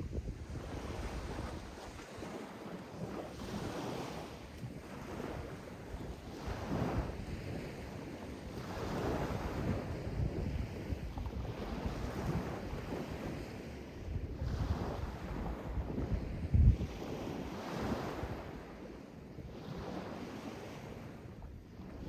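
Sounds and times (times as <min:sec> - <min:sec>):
low rumble of surf: 0:00.0 - 0:22.0
sea waves washing in: 0:00.0 - 0:22.0.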